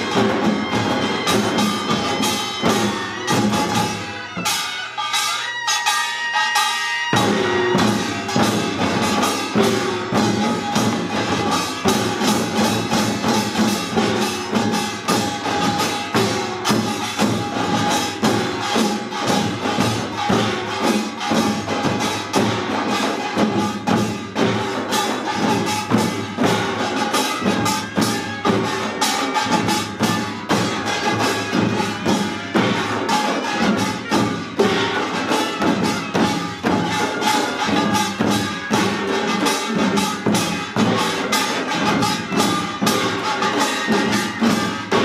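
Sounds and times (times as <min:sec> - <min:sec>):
drums beating fast rhythm: 0:00.0 - 0:45.0
ringing gongs: 0:00.0 - 0:45.0.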